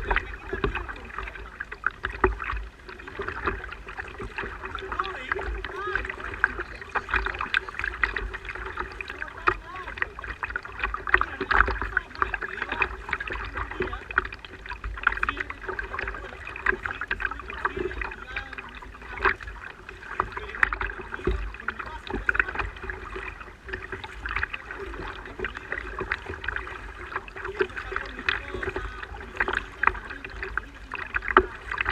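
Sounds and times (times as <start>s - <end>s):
steady low rumble: 0.0s - 31.9s
water splashing against kayak hull: 0.0s - 31.9s.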